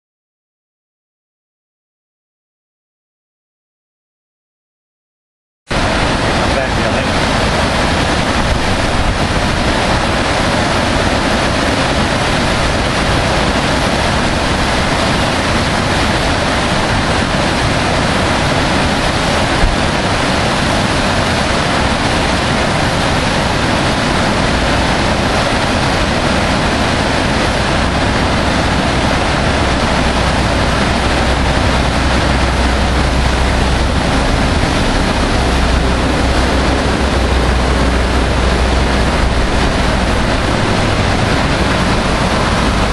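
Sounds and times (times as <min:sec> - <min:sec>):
low rumble: 0:05.7 - 0:18.9, 0:20.8 - 0:42.9
whitewater rapids rushing: 0:05.7 - 0:42.9.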